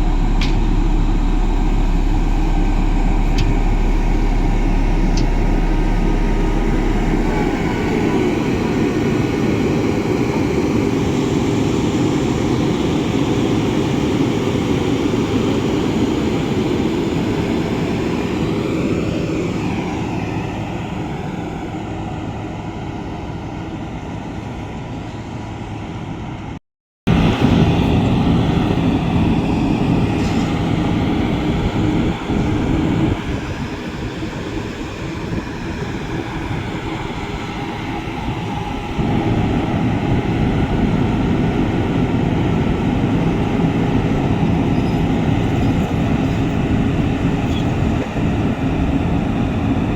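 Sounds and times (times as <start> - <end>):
diesel engine of heavy machine: 0.0 - 49.9.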